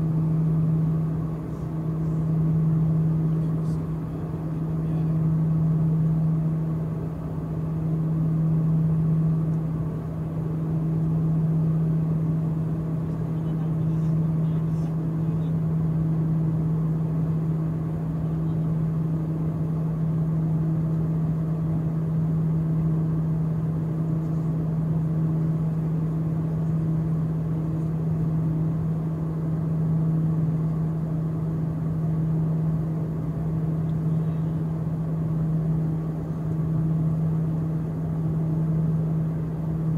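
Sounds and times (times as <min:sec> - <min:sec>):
propeller aircraft cabin drone: 0:00.0 - 0:39.9.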